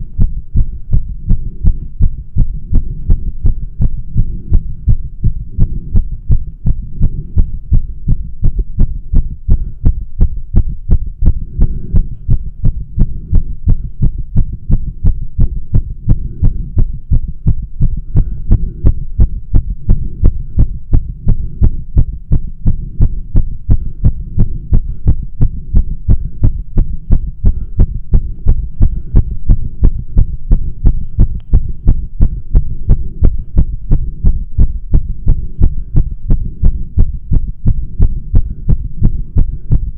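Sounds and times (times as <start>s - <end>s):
fast heartbeat through stethoscope: 0.0s - 39.9s
low rumble: 0.0s - 39.9s.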